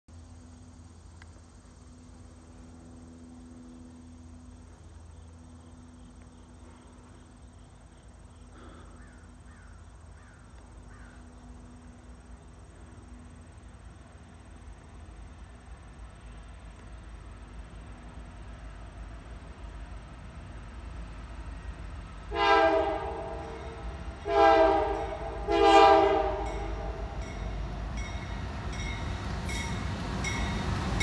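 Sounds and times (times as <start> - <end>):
distant freight train rumble: 0.1 - 31.0.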